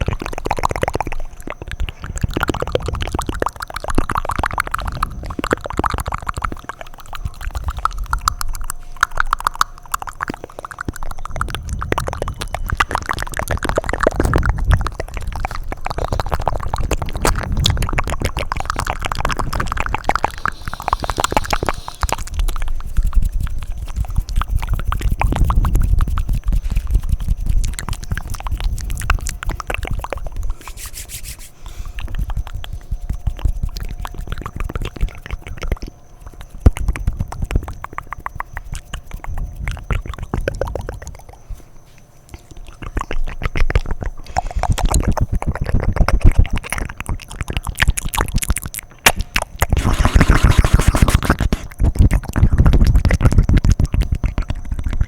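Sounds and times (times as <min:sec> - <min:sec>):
tongue clicks and lip smacks: 0:00.0 - 0:55.0.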